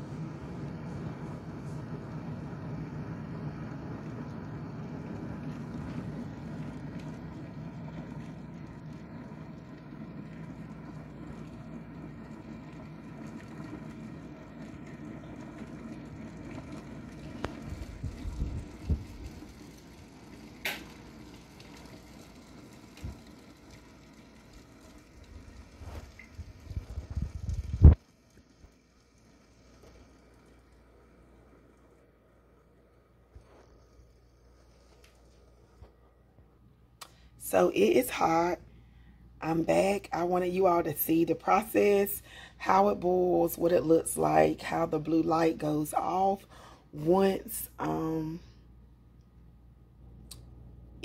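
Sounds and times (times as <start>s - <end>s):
electric kettle heating water: 0.0s - 51.0s.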